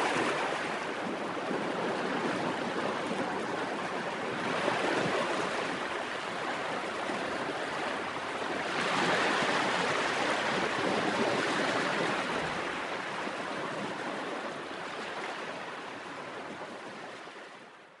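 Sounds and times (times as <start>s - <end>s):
waves washing onto a beach: 0.0s - 18.0s.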